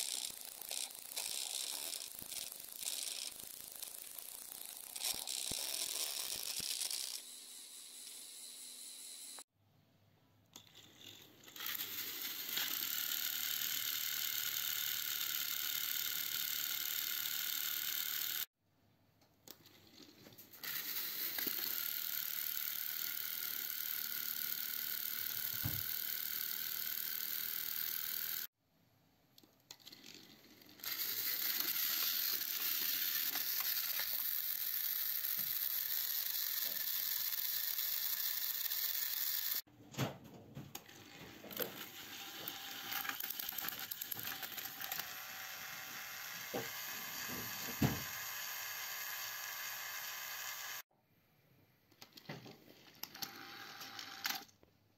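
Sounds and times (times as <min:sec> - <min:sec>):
toy train motors whirring: 0:00.0 - 0:09.5, 0:10.5 - 0:18.5, 0:19.5 - 0:28.6, 0:29.4 - 0:39.7, 0:40.8 - 0:50.9, 0:52.8 - 0:54.6.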